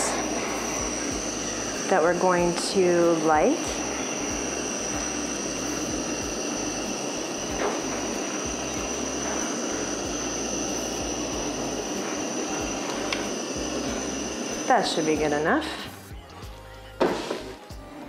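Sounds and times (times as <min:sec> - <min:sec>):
kitchen torch hissing: 0:00.0 - 0:16.1.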